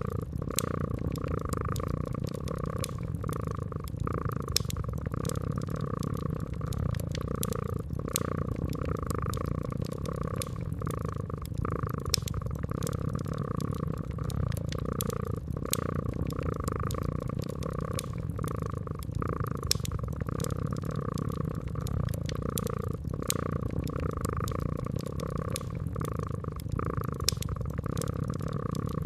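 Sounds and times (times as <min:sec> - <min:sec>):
cat purring: 0:00.0 - 0:29.0
wood fire crackling and popping: 0:00.0 - 0:29.0.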